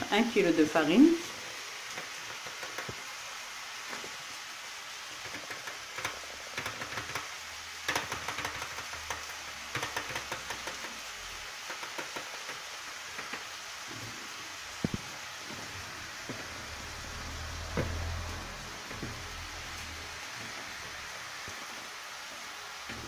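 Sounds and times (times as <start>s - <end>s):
faint steady hiss: 0.0s - 23.0s
flour pouring patter: 0.0s - 23.0s.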